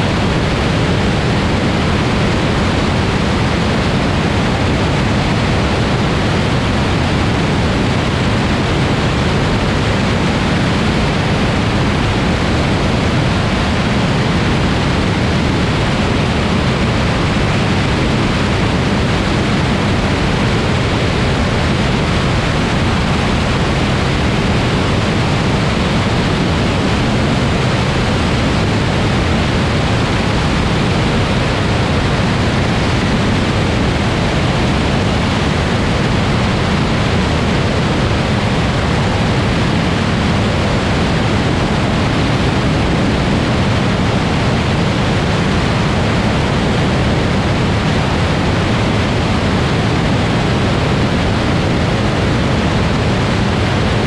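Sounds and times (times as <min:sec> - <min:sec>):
aircraft engine drone: 0:00.0 - 0:54.0
rush of airflow: 0:00.0 - 0:54.0.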